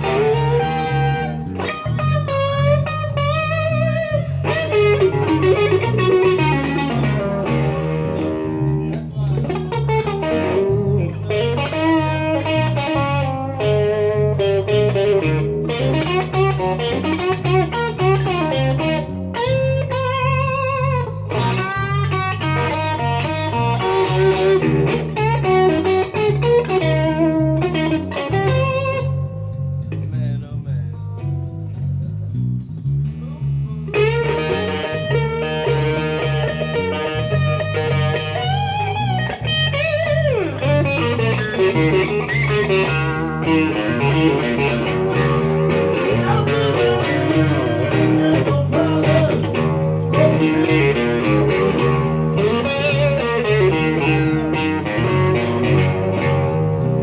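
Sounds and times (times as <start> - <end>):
electric bass groove: 0.0 - 57.0
electric guitar lead lines: 0.0 - 57.0.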